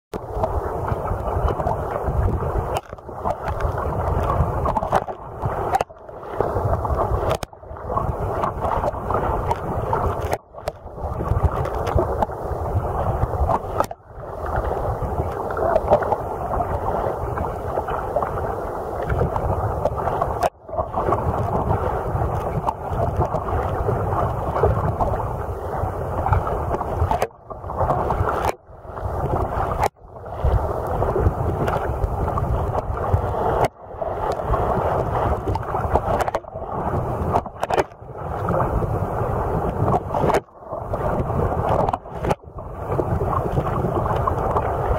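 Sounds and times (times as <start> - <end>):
water rushing around kayak: 0.1 - 44.9
wind on microphone: 0.1 - 44.9.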